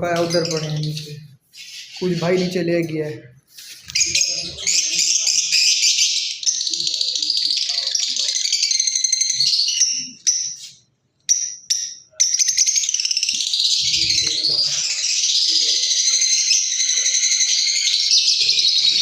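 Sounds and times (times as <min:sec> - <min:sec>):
lovebirds chirping: 0:00.0 - 0:19.0.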